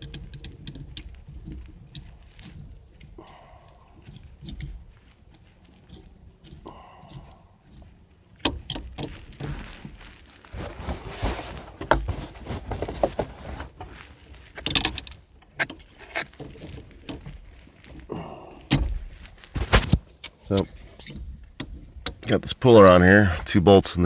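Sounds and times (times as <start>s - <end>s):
rustling: 0.0s - 22.4s.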